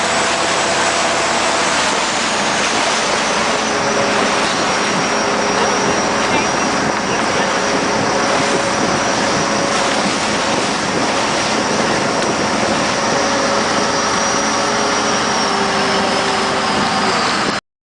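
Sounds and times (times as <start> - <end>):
motorboat engine running: 0.0 - 17.6.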